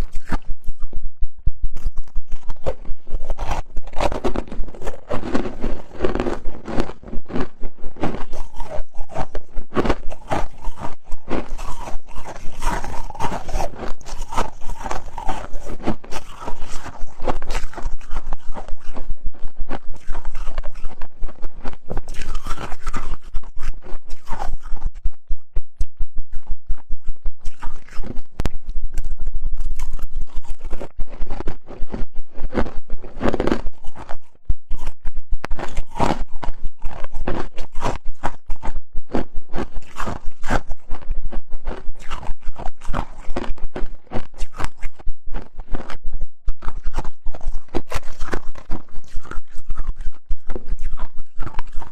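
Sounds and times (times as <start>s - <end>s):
ice being chewed: 0.0s - 25.2s, 25.9s - 51.9s.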